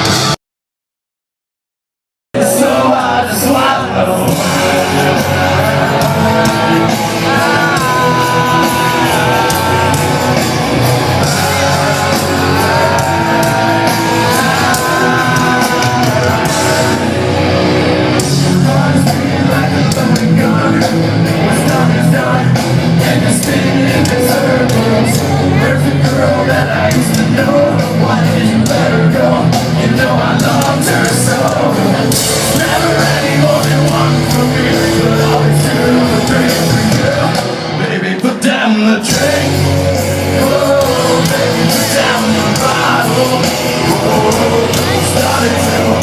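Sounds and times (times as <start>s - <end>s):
live rock band playing: 0.0s - 0.4s, 2.4s - 46.0s
person singing long notes: 2.4s - 37.8s, 39.1s - 46.0s.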